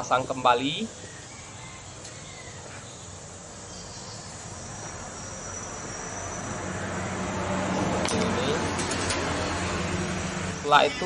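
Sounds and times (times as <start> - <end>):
background noise: 0.0 - 11.0
high insect trill: 0.0 - 11.0.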